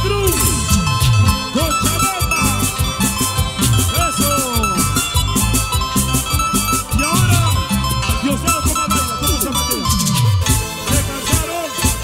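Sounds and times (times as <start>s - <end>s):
live band playing instrumental: 0.0s - 12.0s
pitch-bending lead lines: 0.0s - 12.0s
steady drum beat: 0.0s - 12.0s.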